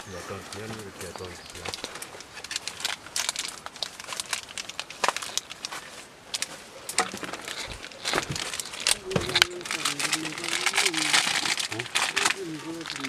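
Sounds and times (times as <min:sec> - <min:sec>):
dry rustling and crackling: 0:00.0 - 0:13.0.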